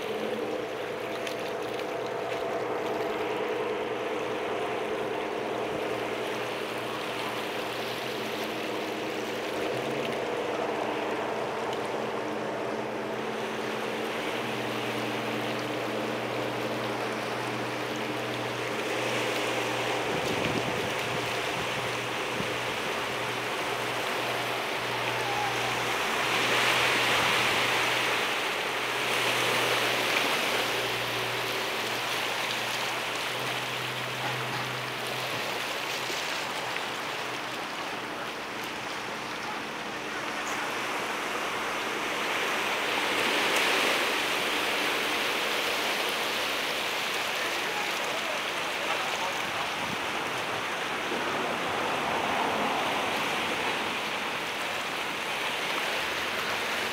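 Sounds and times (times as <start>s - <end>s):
boat engines droning: 0.0s - 56.9s
churned water rushing: 0.0s - 56.9s.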